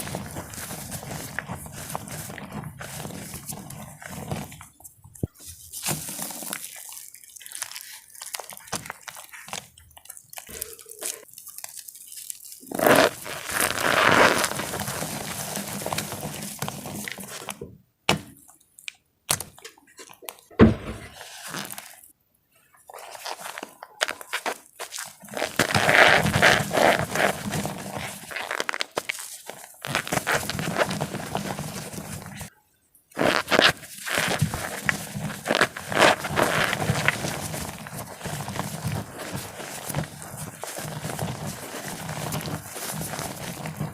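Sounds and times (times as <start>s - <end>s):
wet chalk crunching by hand: 0.0s - 17.6s, 22.9s - 32.5s, 33.1s - 43.9s.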